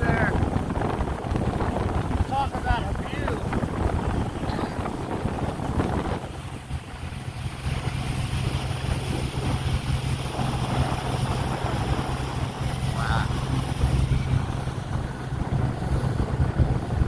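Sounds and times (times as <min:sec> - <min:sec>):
motorboat engine running: 0:00.0 - 0:17.0
wind buffeting microphone: 0:00.0 - 0:17.0.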